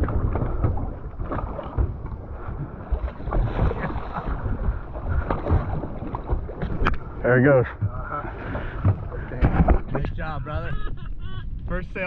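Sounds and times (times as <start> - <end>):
boat noise: 0.0 - 12.0
water: 0.0 - 12.0
wind buffeting microphone: 0.0 - 12.0.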